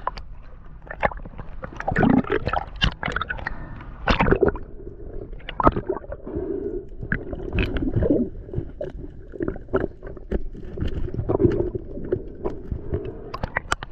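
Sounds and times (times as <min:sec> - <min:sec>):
muffled underwater rumble: 0:00.0 - 0:13.9.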